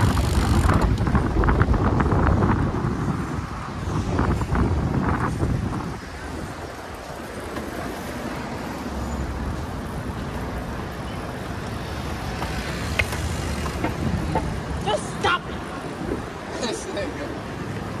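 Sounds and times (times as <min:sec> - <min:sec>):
city traffic: 0:00.0 - 0:18.0.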